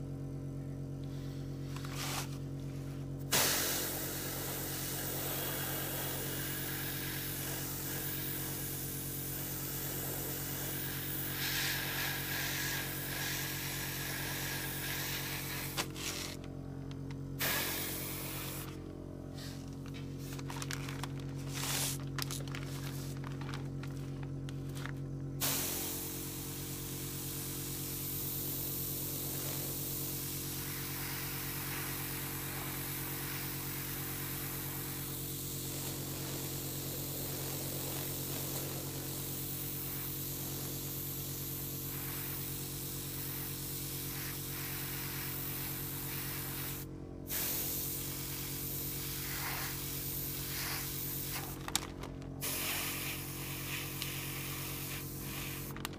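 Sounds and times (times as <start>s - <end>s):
airbrush spraying hiss: 1.1s - 16.4s, 17.2s - 23.2s, 25.4s - 51.8s, 52.4s - 55.9s.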